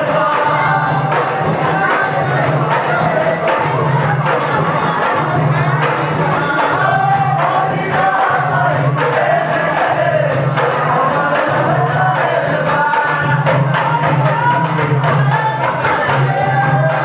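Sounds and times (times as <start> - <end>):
group of voices singing: 0.0 - 17.0
hand drums beating: 0.0 - 17.0.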